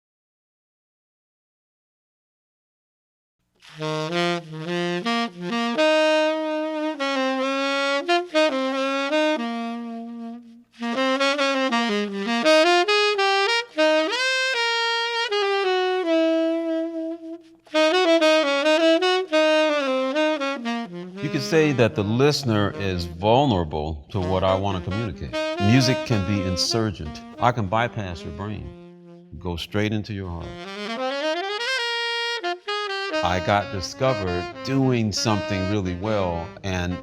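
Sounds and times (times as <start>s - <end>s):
tenor saxophone melody: 3.6s - 37.0s.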